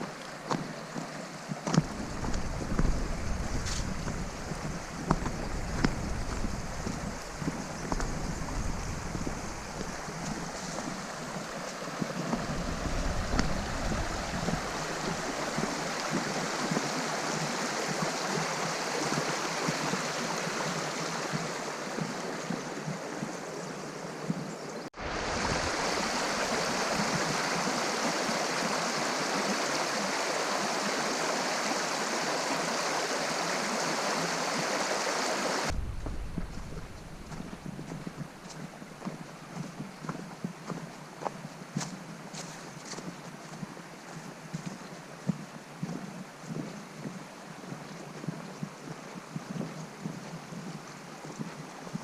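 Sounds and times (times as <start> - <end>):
flowing stream water: 0.0 - 52.0.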